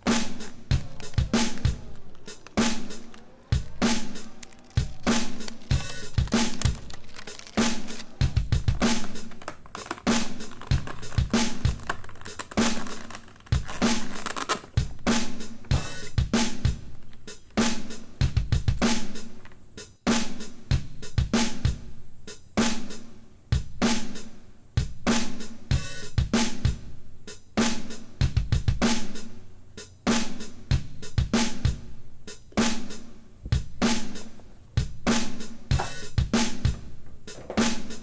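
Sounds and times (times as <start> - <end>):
drum kit beat: 0.0 - 38.0.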